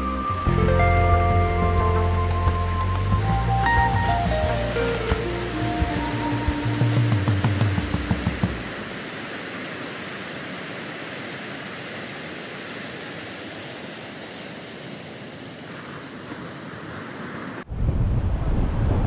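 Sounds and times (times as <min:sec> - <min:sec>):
rough sea: 0:00.0 - 0:19.0
wind: 0:00.0 - 0:19.0.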